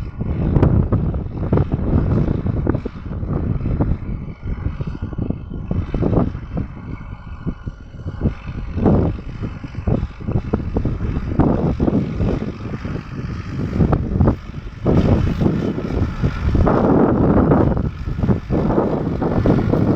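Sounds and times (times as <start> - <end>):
low vehicle rumble: 0.0 - 19.9
wind buffeting microphone: 0.0 - 19.9.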